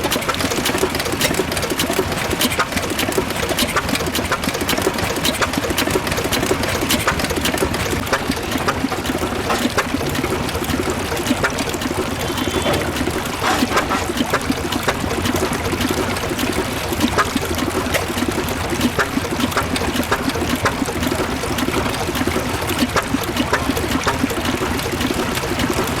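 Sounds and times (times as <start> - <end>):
stationary petrol engine running: 0.0 - 26.0.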